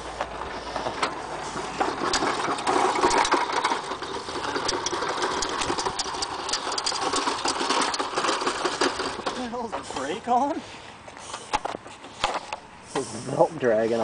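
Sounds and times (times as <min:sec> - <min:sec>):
lawn mower wheels rattling: 0:00.0 - 0:14.0
loose belt dragging: 0:00.0 - 0:14.0.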